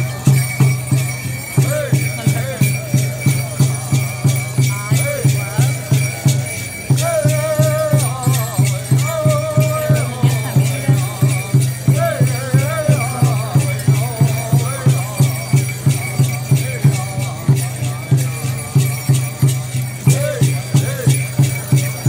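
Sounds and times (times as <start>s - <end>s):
hand drum steady pulse: 0.0s - 22.0s
jingling rattles and bells: 0.0s - 22.0s.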